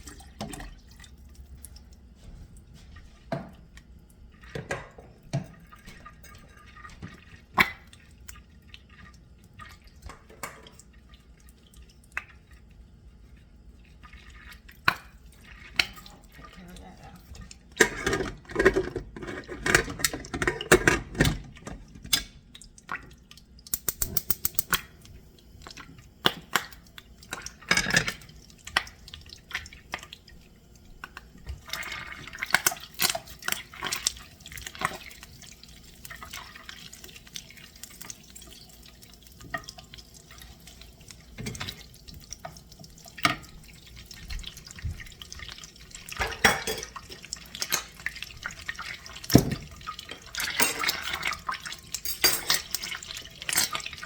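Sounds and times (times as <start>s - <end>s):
tap water running and dripping: 0.0s - 54.0s.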